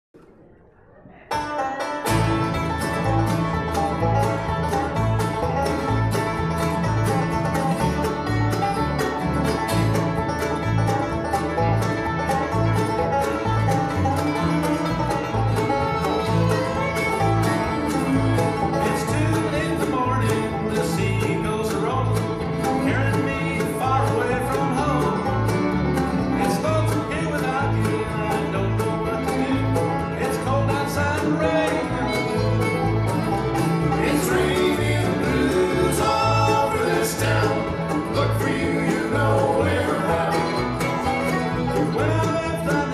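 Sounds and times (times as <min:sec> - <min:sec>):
bluegrass band playing: 0:01.3 - 0:42.9
upright bass plucking: 0:01.3 - 0:42.9.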